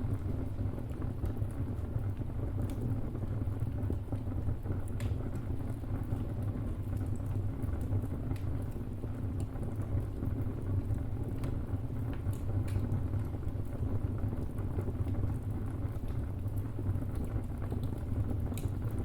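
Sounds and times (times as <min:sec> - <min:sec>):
crackles and pops of burning wood: 0:00.0 - 0:19.0
wood fire burning: 0:00.0 - 0:19.0.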